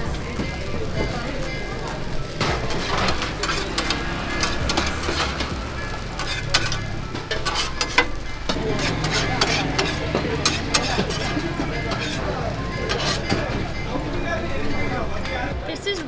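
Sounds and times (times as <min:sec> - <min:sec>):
metal spatula scraping griddle: 0:00.0 - 0:15.5
batter frying: 0:00.0 - 0:16.0.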